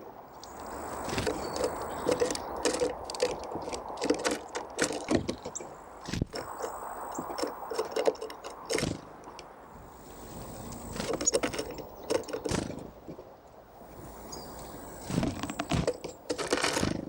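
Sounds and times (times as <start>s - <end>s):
birds pecking and tapping at seed: 0.3s - 9.5s, 10.6s - 13.3s, 13.9s - 17.0s.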